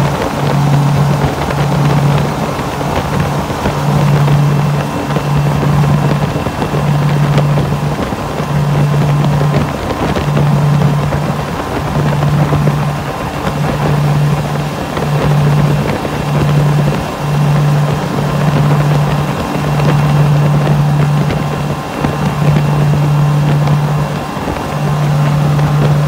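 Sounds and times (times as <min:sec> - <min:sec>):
outboard motors droning: 0:00.0 - 0:26.0
rush of spray and wake water: 0:00.0 - 0:26.0
wind on microphone: 0:00.0 - 0:26.0.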